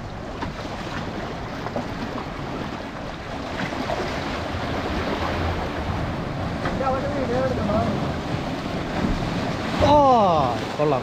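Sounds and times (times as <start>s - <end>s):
wind buffeting microphone: 0.0s - 10.8s
sea waves splashing on concrete: 0.0s - 11.0s.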